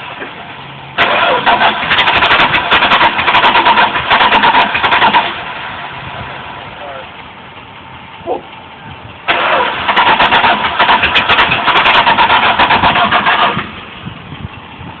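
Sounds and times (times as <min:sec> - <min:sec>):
truck engine starting: 0:00.0 - 0:15.0.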